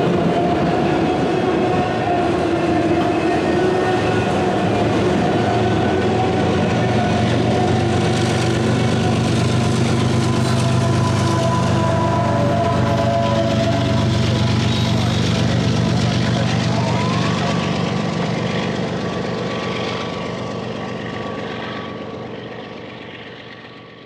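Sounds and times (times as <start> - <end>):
freight train rolling over rails: 0.0 - 24.0.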